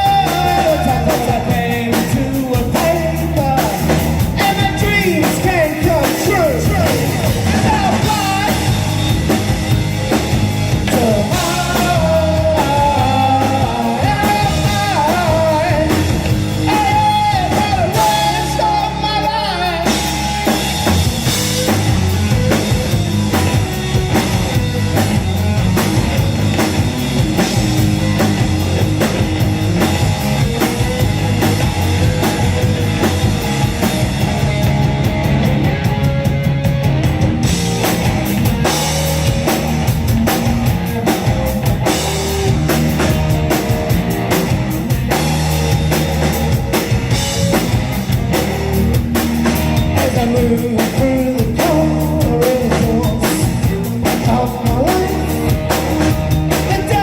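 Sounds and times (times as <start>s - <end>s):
rock band playing: 0.0s - 57.0s
wavering lead guitar melody: 0.0s - 57.0s.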